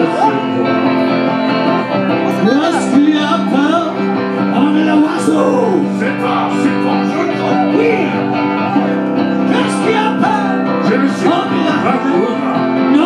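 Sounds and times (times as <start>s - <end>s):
electric guitar: 0.0s - 13.0s
live band playing: 0.0s - 13.0s.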